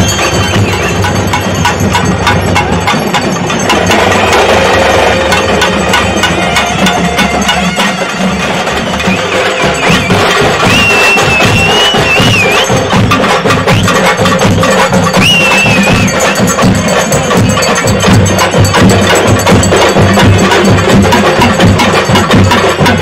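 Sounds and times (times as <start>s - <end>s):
fast procession drumming: 0.0s - 23.0s.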